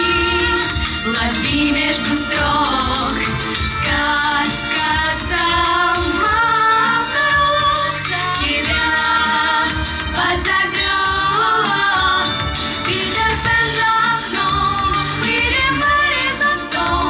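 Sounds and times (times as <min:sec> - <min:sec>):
instrumental accompaniment with beat: 0:00.0 - 0:17.0
woman singing with vibrato: 0:00.0 - 0:17.0.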